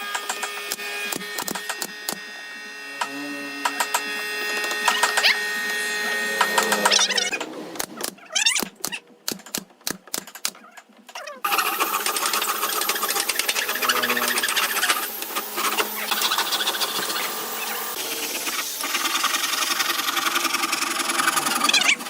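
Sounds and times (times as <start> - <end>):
electric power tool motor buzzing: 0.0 - 8.2, 11.5 - 22.0.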